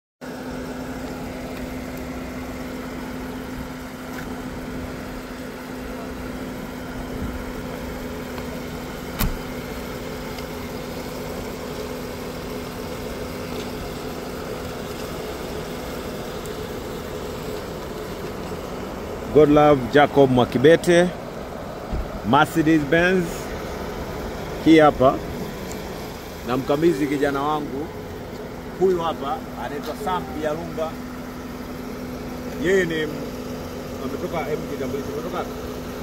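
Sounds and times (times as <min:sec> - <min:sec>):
car engine idling: 0:00.2 - 0:36.0.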